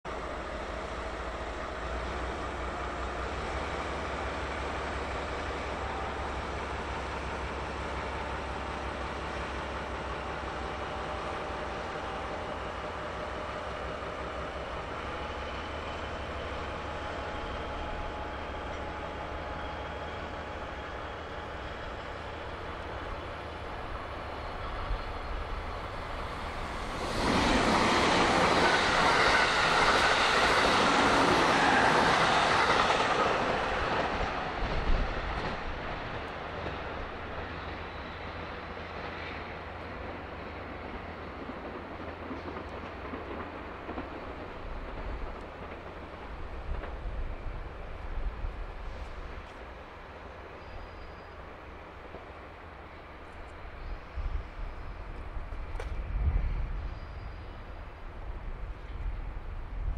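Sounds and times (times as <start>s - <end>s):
diesel locomotive engine rumbling: 0.0s - 59.9s
electric train passing: 0.1s - 59.9s.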